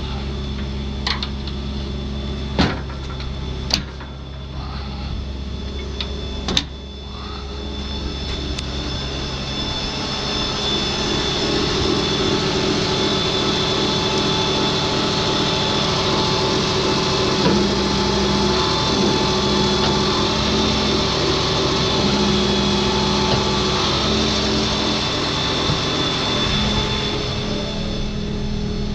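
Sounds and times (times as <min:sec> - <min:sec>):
motor droning hum with whine: 0:00.0 - 0:28.9.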